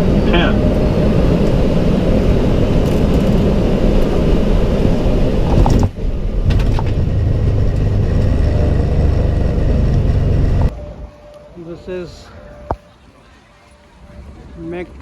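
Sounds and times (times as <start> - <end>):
jet airliner low rumble: 0.0 - 13.0.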